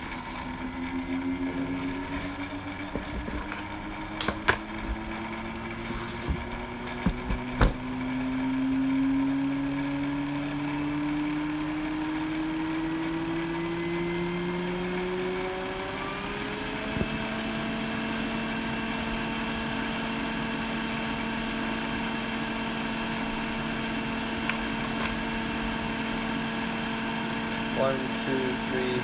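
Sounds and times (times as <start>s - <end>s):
small motor humming: 0.0s - 29.0s.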